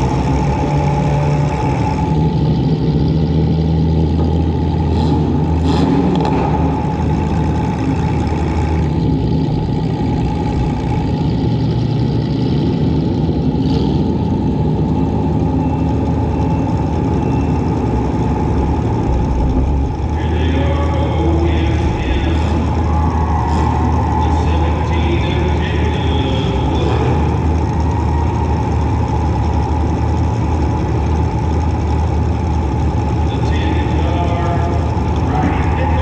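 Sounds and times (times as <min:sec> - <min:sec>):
car engine running hard: 0:00.0 - 0:36.0.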